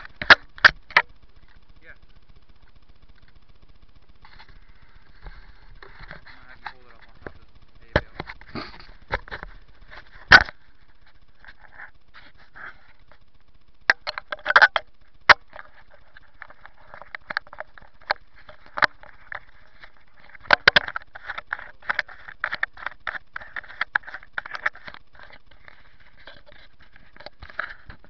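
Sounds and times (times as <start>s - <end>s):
sharp clicks and knocks: 0.0s - 12.3s, 13.0s - 28.0s.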